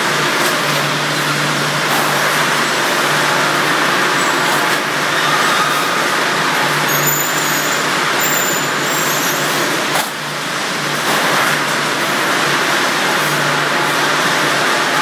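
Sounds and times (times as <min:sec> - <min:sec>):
conveyor machinery running: 0:00.0 - 0:15.0.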